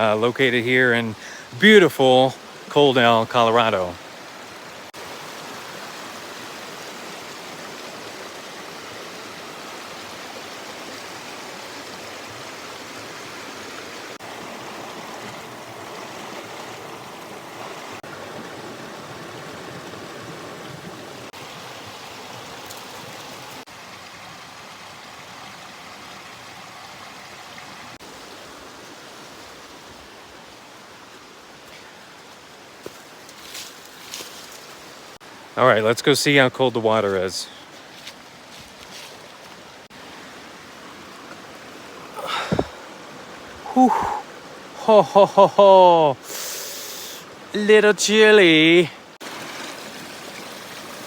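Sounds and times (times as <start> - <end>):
creek water flowing over rocks: 0.0 - 51.0.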